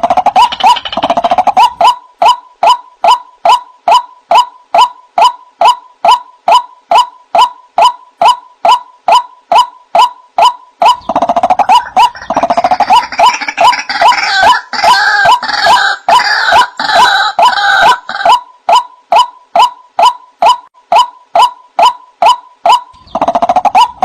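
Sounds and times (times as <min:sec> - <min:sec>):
waterhen calling: 0:00.0 - 0:24.0.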